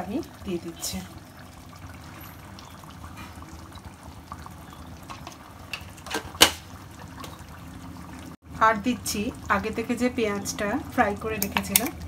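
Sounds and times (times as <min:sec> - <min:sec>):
gravy bubbling in a pan: 0:00.0 - 0:12.0.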